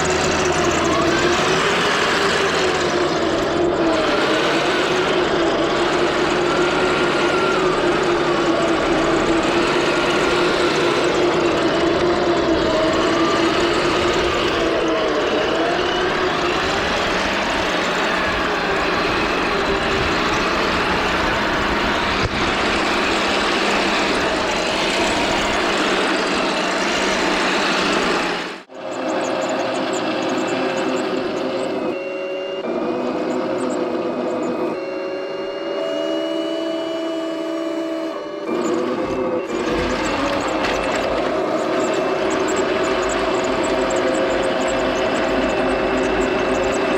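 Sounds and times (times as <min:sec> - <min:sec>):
toy tank motors running: 0:00.0 - 0:46.9
whining motor tones: 0:00.0 - 0:46.9.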